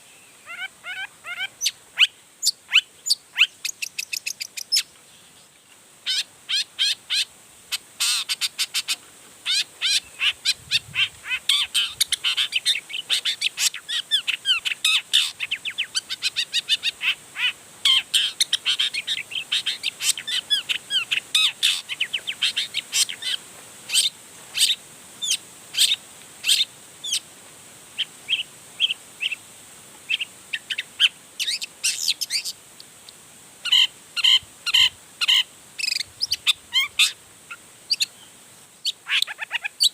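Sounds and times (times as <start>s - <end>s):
bird singing chattering song: 0.0s - 27.2s, 30.1s - 37.2s, 37.9s - 39.9s.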